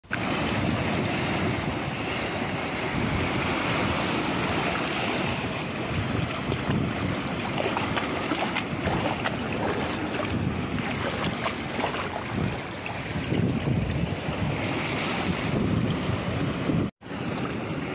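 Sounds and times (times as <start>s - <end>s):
waves washing over rocks: 0.1s - 17.9s
wind rumble on microphone: 0.1s - 17.9s.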